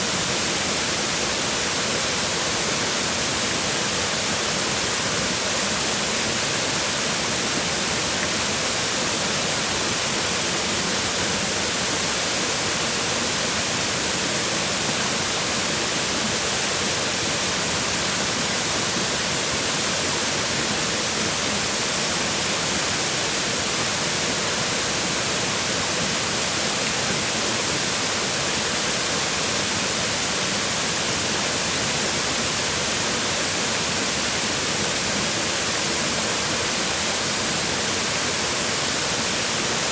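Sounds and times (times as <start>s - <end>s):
waterfall splashing on rocks: 0.0s - 39.9s.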